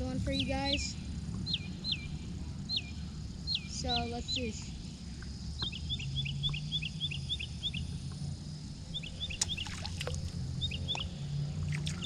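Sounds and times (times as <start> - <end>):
steady low hum: 0.0 - 12.0
bird chirping: 0.2 - 12.0.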